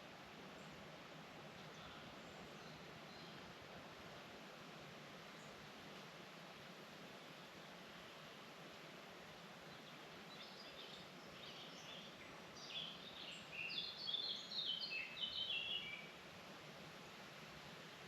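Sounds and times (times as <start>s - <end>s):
steady forest hiss: 0.0s - 18.0s.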